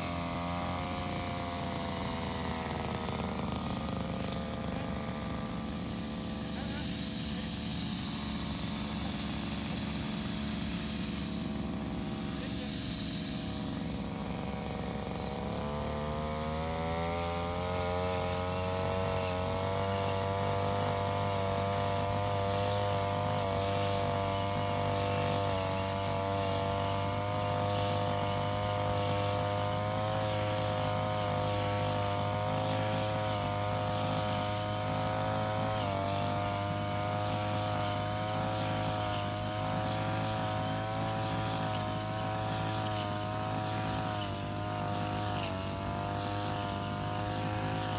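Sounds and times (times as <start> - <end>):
brush cutter engine revving: 0.0 - 47.9.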